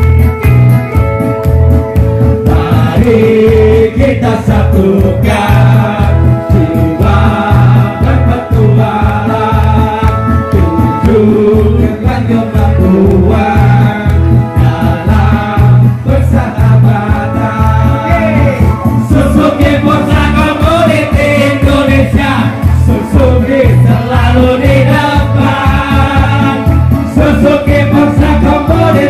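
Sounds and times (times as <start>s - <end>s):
loud music with steady beat: 0.0s - 29.0s
men singing through microphones: 2.4s - 29.0s.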